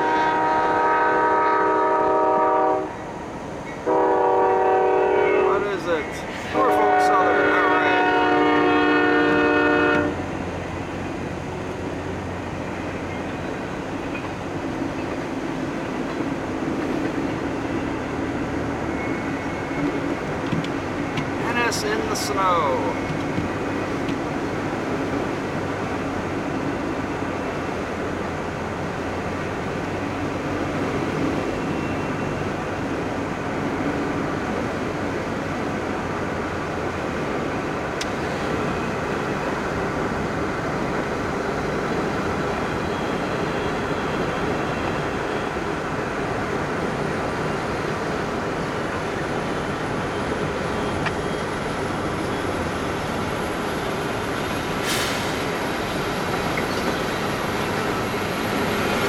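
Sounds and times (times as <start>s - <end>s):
freight train running: 0.0s - 59.0s.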